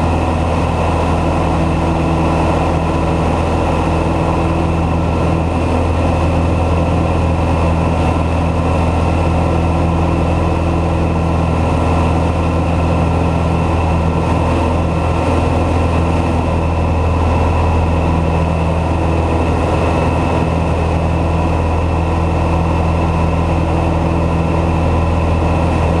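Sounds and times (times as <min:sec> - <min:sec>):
aircraft engine and propeller drone: 0:00.0 - 0:26.0.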